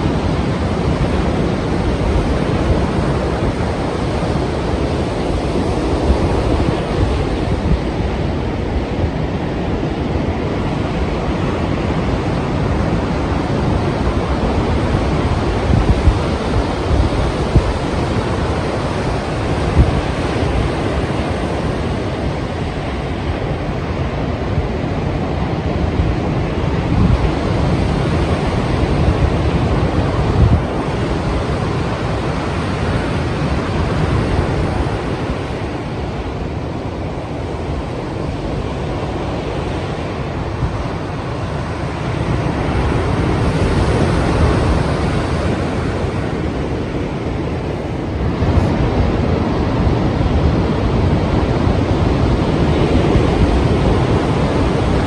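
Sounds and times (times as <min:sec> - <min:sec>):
ocean waves breaking: 0:00.0 - 0:55.0
wind buffeting microphone: 0:00.0 - 0:55.0.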